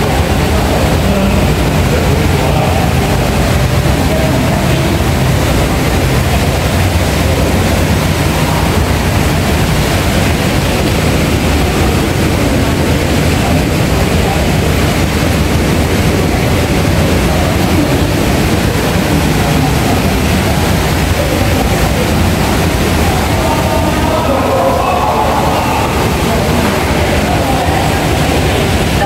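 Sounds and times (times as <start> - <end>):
indistinct voices: 0.0 - 29.0
loud steady rumbling: 0.0 - 29.0.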